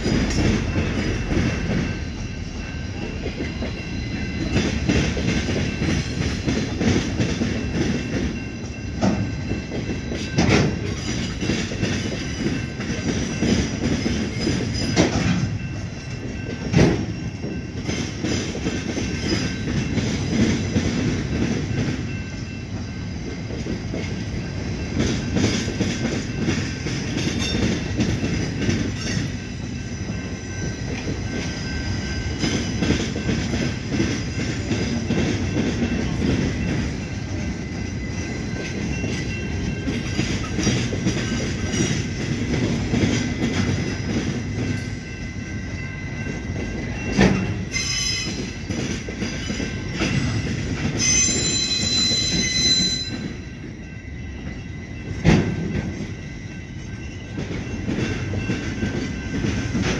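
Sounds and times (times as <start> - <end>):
clacks at rail joints: 0.0 - 54.0, 55.0 - 59.9
train wheels rumbling on rails: 0.0 - 59.9.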